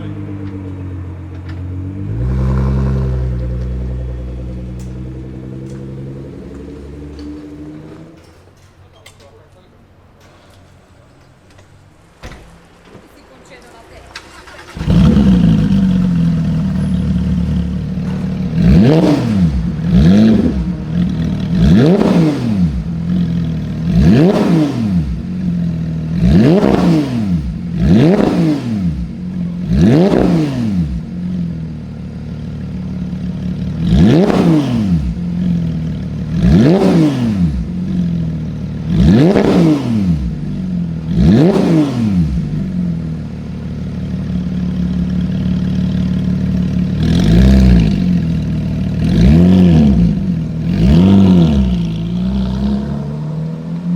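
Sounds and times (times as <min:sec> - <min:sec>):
car engine starting and revving: 0:00.0 - 0:08.3, 0:14.1 - 0:53.9.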